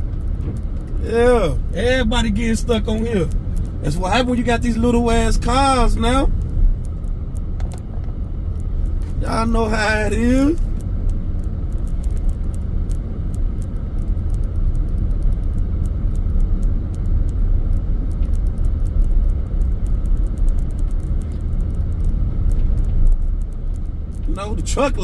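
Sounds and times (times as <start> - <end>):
faint irregular crackle: 0.0 - 25.0
low rumble of vehicle driving: 0.0 - 25.0.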